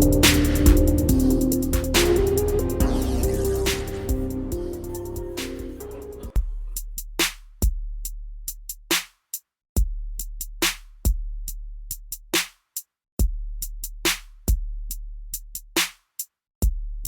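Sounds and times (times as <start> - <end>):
hip-hop drum machine beat: 0.0 - 9.2, 9.8 - 17.0.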